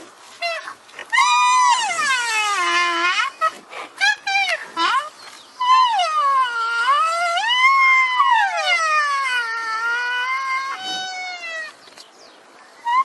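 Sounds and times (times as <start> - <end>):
rhinoceros high whining squeal: 0.4 - 11.8.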